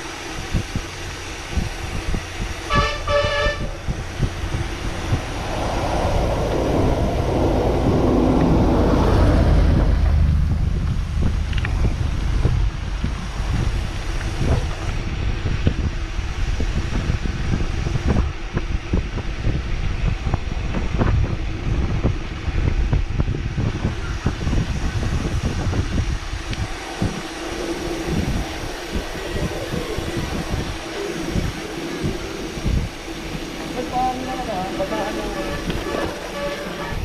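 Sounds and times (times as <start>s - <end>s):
steady hum: 0.0s - 37.0s
wind buffeting microphone: 0.0s - 37.0s.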